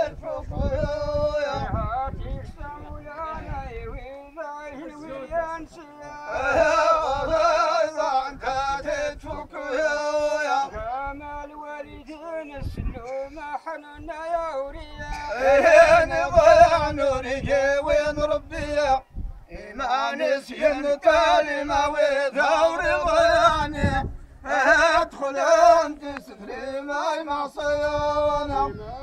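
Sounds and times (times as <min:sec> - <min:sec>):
man singing a folk chant: 0:00.0 - 0:29.0.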